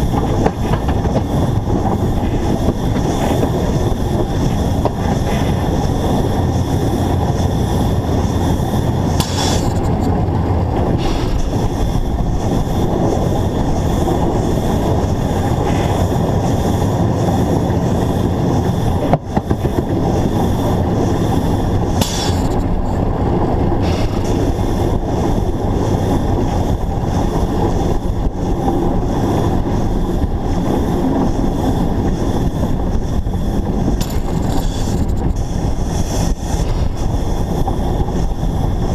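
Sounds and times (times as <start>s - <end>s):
steam locomotive wheels rumbling: 0.0s - 38.9s.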